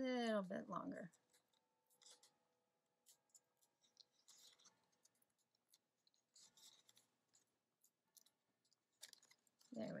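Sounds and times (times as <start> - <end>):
faint scratching and rustling of card: 0.0 - 10.0.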